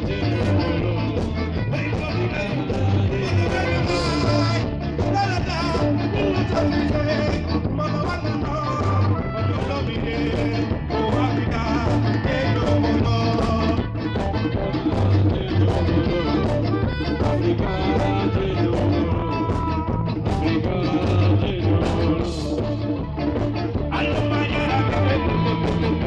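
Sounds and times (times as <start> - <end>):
heavy bass line: 0.0 - 26.0
live reggae band playing: 0.0 - 26.0
steady drum beat: 0.0 - 26.0.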